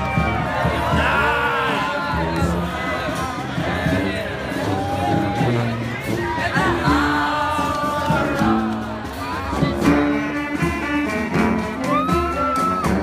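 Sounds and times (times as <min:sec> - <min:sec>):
brass band playing: 0:00.0 - 0:13.0
crowd voices: 0:00.0 - 0:13.0
drum beats: 0:00.0 - 0:13.0.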